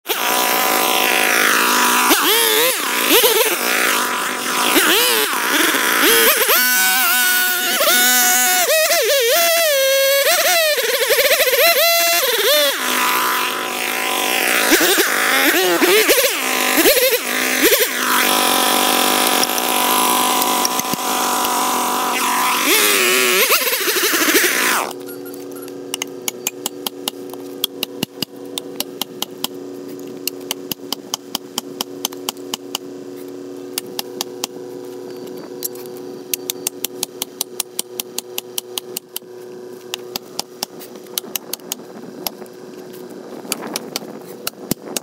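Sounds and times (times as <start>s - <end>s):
chainsaw cutting tree trunk: 0.1s - 45.0s.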